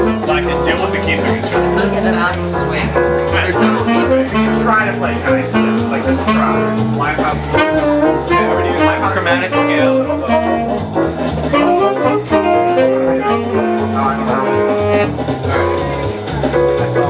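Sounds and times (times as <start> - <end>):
bass line: 0.0 - 17.0
jazz melodic line: 0.0 - 17.0.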